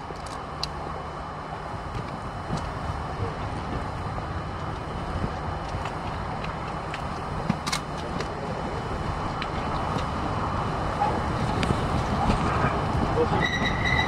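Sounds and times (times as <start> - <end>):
tram running on track: 0.0 - 14.0.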